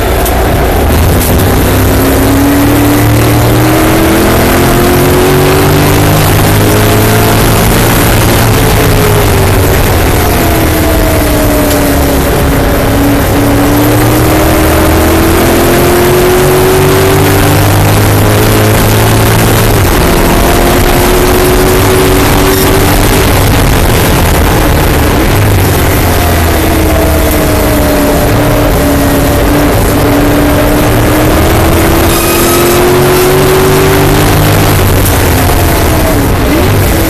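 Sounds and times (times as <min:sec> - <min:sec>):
racing car engine revving: 0:00.0 - 0:37.0
road noise: 0:00.0 - 0:37.0
wind noise: 0:00.0 - 0:37.0.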